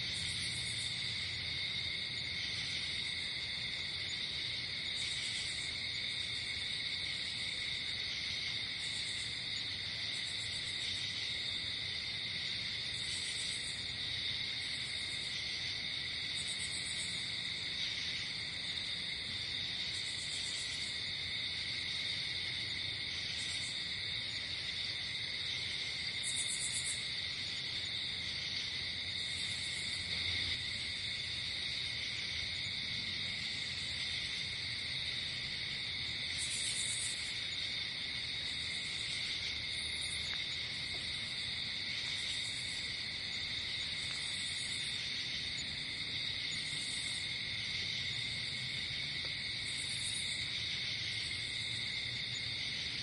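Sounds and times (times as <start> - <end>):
cricket trill: 0.0 - 53.0.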